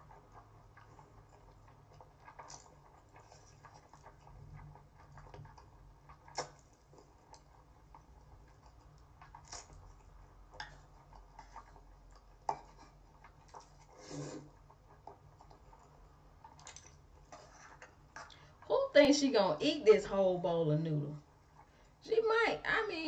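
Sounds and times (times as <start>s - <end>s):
noodles slurped and chewed: 0.0s - 18.7s.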